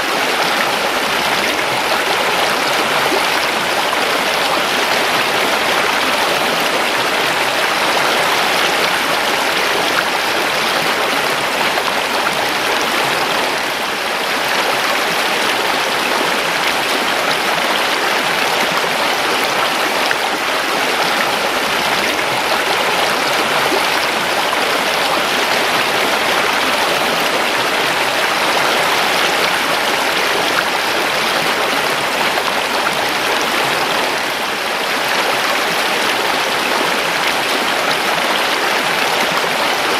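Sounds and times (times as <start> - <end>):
creek water rushing over stones: 0.0 - 39.9.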